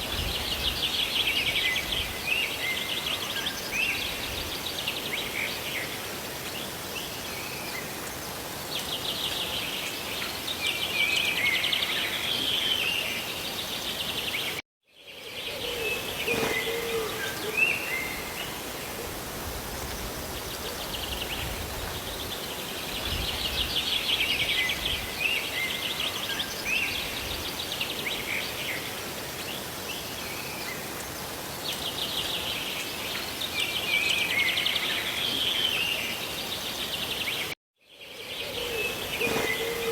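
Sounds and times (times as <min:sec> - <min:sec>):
rain and falling water: 0:00.0 - 0:14.6, 0:16.0 - 0:37.6
songbirds chirping: 0:00.0 - 0:39.9.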